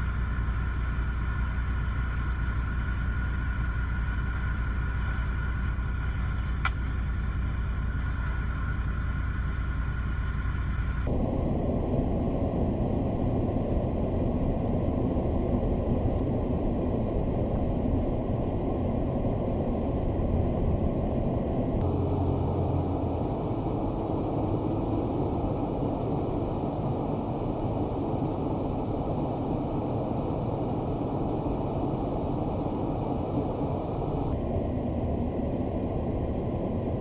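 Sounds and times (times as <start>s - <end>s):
car road and engine rumble: 0.0s - 37.0s.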